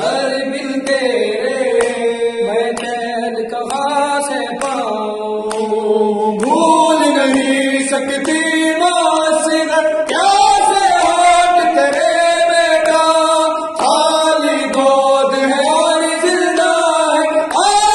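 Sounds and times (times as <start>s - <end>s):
men chanting a lament: 0.0s - 17.9s.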